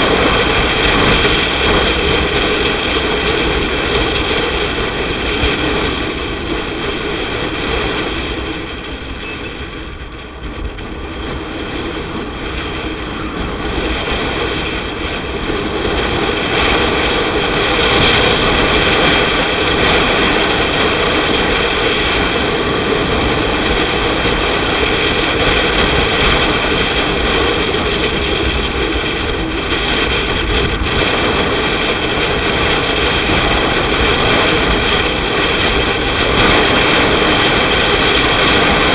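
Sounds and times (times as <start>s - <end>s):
motorcycle engine: 0.0s - 38.9s
wind rushing over microphone: 0.0s - 38.9s.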